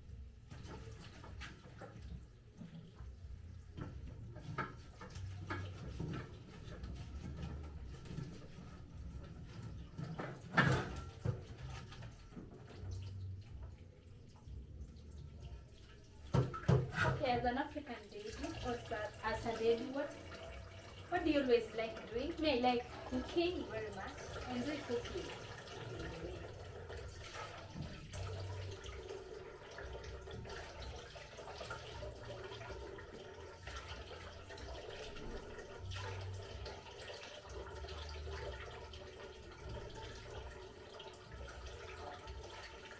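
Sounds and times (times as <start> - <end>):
water splashing and dripping: 0.0 - 42.9.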